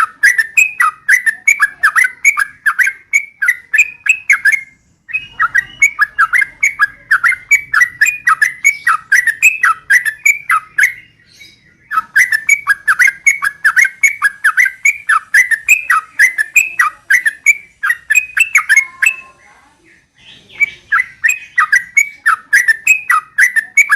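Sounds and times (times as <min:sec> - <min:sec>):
bird chattering song: 0:00.0 - 0:23.9.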